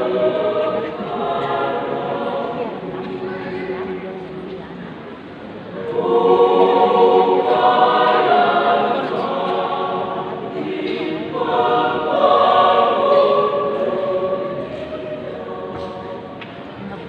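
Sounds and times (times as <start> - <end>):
choir singing: 0.0 - 4.5, 5.7 - 16.8.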